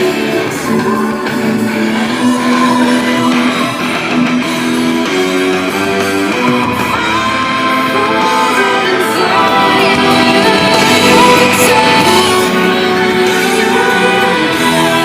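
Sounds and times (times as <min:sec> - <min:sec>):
loud guitar music over speakers: 0:00.0 - 0:15.0.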